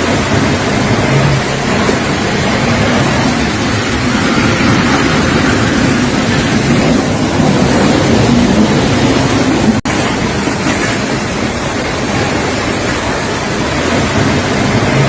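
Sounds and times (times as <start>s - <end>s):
strong storm wind rushing: 0.0s - 15.0s
wind buffeting microphone: 0.1s - 15.0s.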